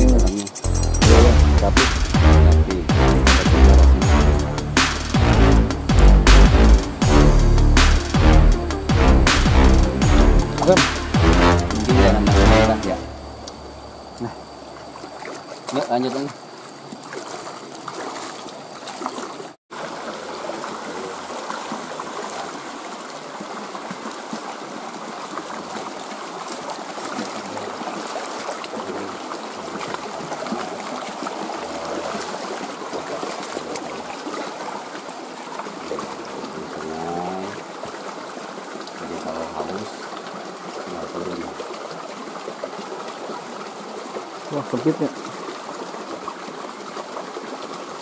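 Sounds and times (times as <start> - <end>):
stream water flowing: 0.0 - 48.0.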